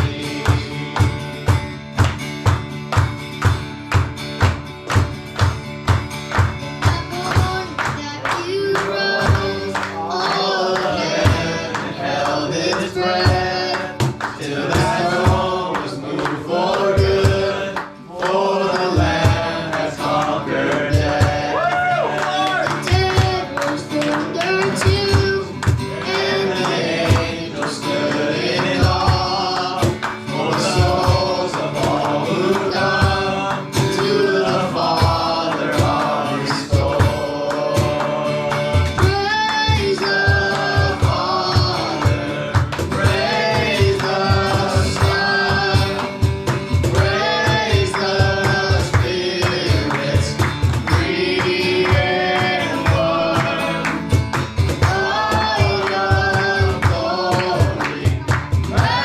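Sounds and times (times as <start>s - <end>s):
band with steady drum beat: 0.0s - 10.4s, 13.0s - 15.7s, 17.0s - 17.8s, 18.8s - 21.6s, 22.8s - 59.0s
voices singing worship song: 0.0s - 59.0s.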